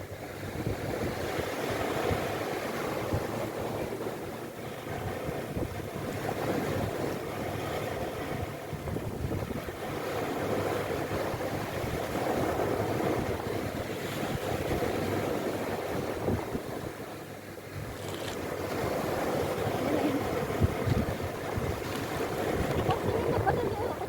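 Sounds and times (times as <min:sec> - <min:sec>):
sea waves: 0:00.0 - 0:24.0
wind buffeting microphone: 0:00.0 - 0:24.0.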